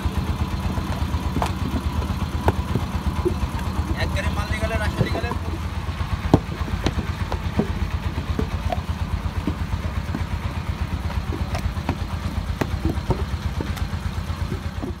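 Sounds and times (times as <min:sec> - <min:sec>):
engine running with pulsing beat: 0:00.0 - 0:15.0
sharp knocks and clicks: 0:00.6 - 0:15.0.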